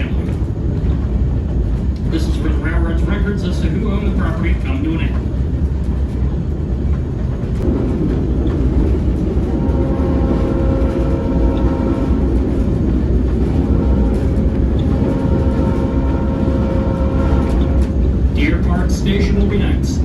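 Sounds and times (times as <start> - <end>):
steady higher hum: 0.0 - 20.0
train rumbling on track: 0.0 - 20.0.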